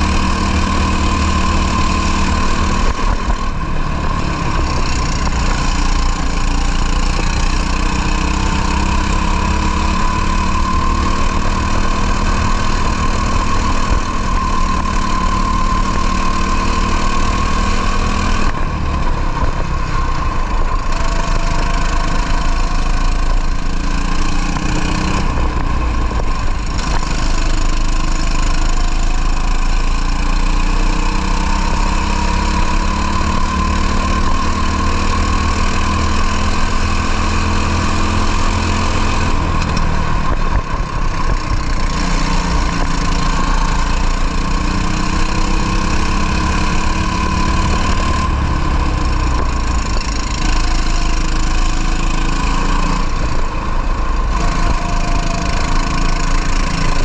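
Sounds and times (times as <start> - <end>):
racing kart engine revving: 0.0 - 57.0.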